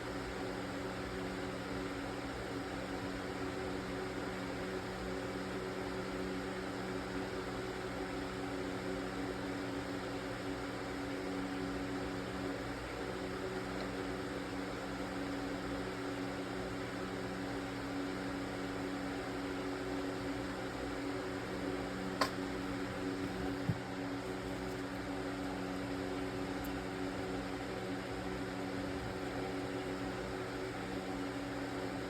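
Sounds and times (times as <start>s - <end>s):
mechanical hum with low tones: 0.0s - 32.0s.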